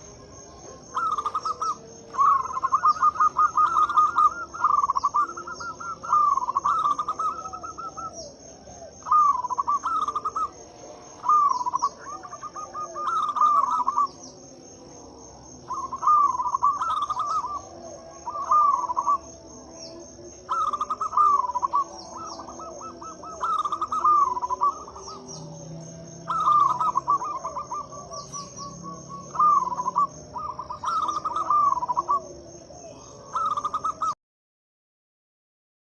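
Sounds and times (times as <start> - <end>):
dove cooing in trilled phrases: 0.0 - 34.2
high pulsing insect trill: 0.0 - 34.2.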